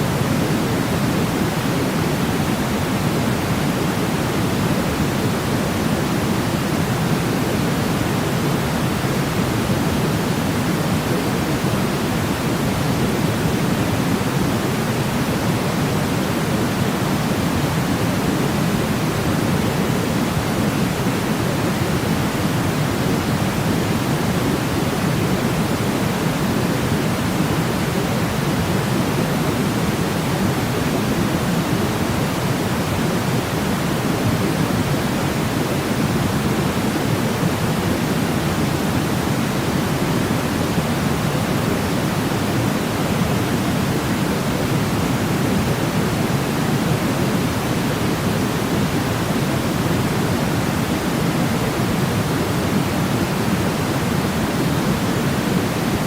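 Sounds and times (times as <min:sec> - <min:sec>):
steady white noise rush: 0:00.0 - 0:56.0.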